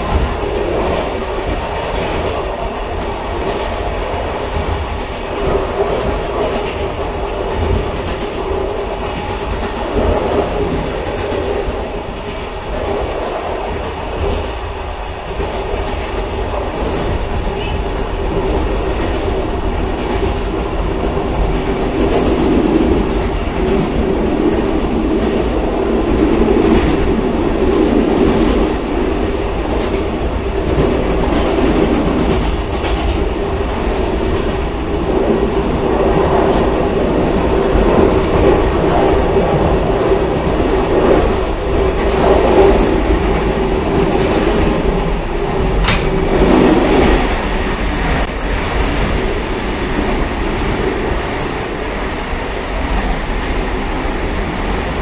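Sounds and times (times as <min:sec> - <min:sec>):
railcar rumbling on track: 0:00.0 - 0:55.0.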